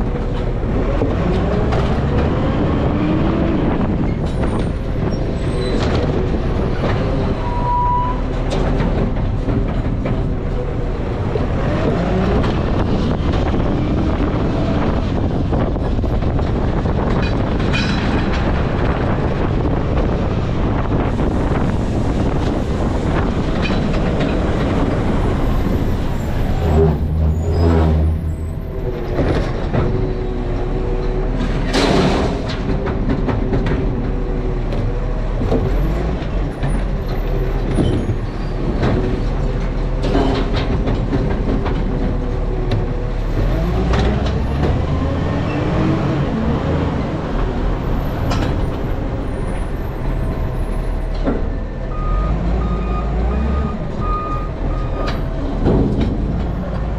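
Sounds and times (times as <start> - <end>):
garbage truck engine running: 8.2 - 56.9.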